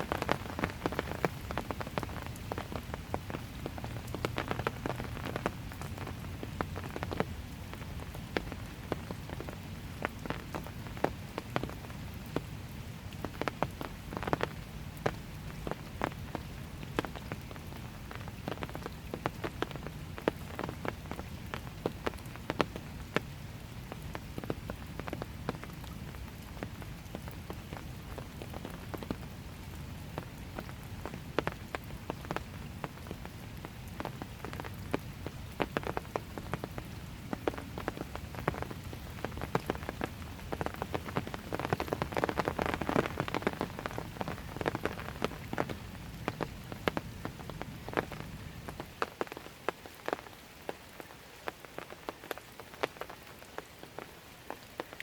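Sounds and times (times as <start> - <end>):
rain drops tapping: 0.0 - 55.0.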